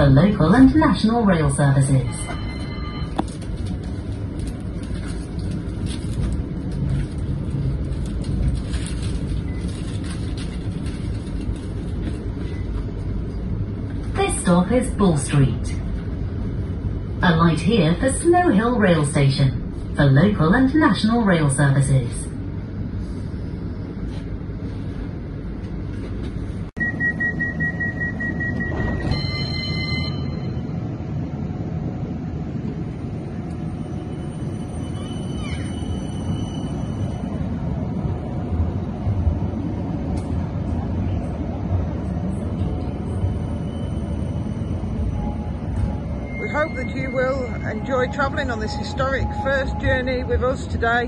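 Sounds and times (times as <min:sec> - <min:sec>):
tram rumbling on track: 0:00.0 - 0:51.0.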